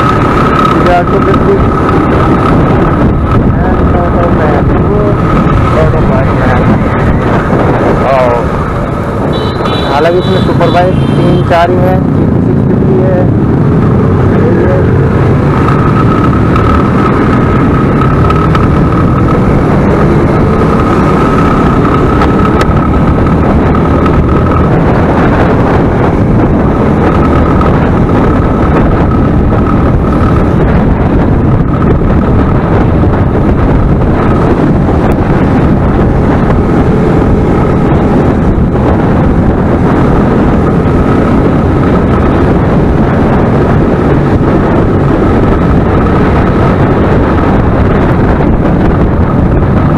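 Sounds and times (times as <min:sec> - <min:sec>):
motorcycle engines running: 0:00.0 - 0:49.9
wind buffeting microphone: 0:00.0 - 0:49.9.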